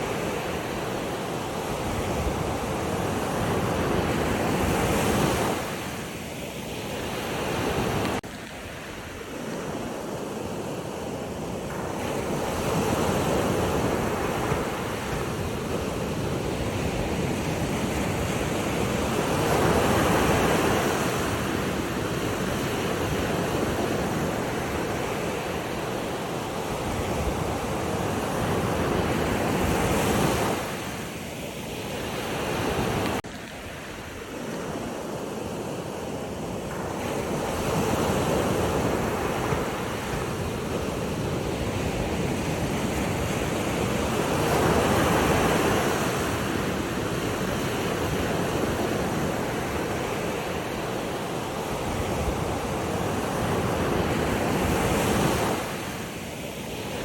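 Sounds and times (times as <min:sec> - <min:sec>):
waves surging: 0:00.0 - 0:57.0
wind noise on microphone: 0:00.0 - 0:57.0.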